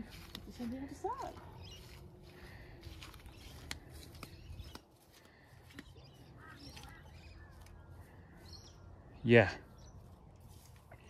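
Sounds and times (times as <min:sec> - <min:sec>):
distant bird calls: 0:00.0 - 0:11.0.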